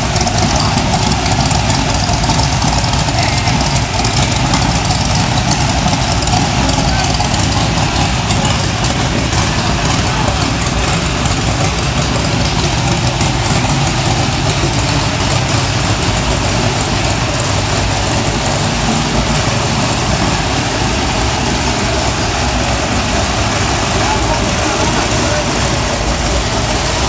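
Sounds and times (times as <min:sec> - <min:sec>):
radial aircraft engine idling: 0:00.0 - 0:27.0.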